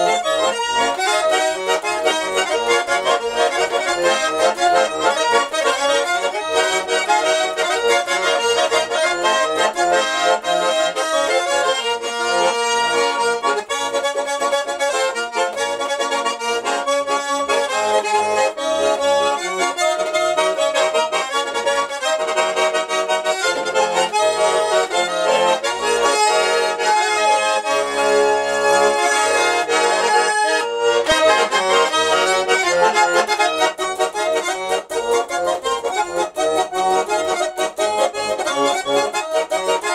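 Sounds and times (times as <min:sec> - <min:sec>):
button accordion tune: 0:00.0 - 0:39.9.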